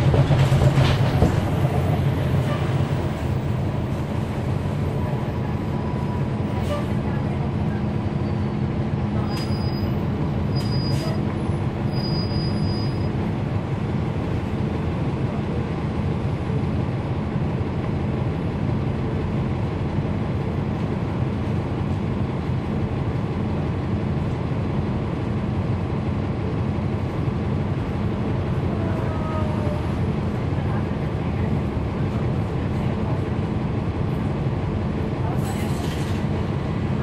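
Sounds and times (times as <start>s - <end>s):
bus diesel engine running: 0.0s - 37.0s.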